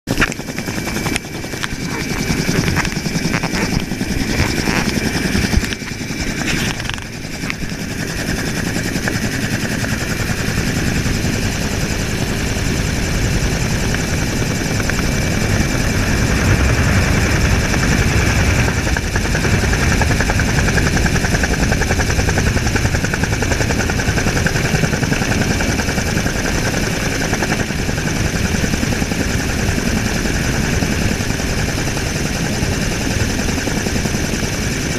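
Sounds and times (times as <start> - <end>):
helicopter rotor chopping: 0.1 - 34.9
high turbine whine: 0.1 - 34.9.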